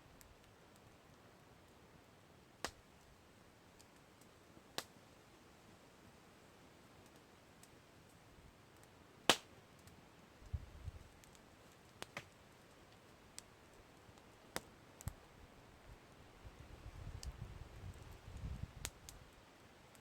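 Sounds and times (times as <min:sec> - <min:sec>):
campfire wood crackling: 0:00.0 - 0:20.0
faint fire hiss: 0:00.0 - 0:20.0.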